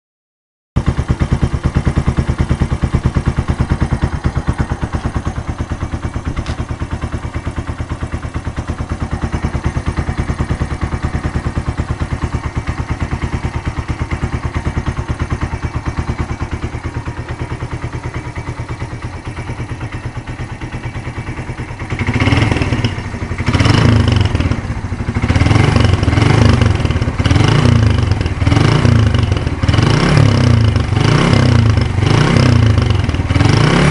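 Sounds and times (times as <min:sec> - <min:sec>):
motorcycle engine idling: 0:00.8 - 0:33.9
engine revving: 0:00.9 - 0:33.9.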